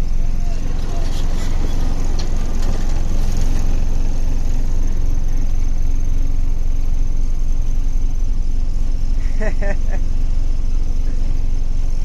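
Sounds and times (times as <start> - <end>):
truck diesel engine rumble: 0.0 - 12.0.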